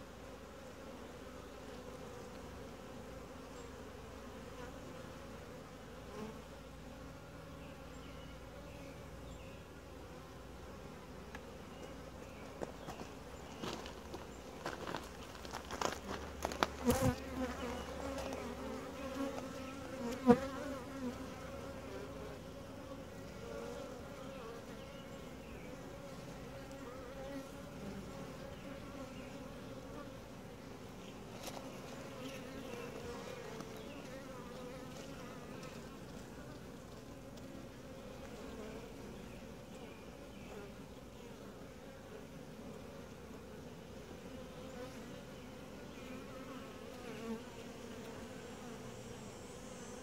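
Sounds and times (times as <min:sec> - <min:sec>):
bees humming: 0:00.0 - 0:50.0.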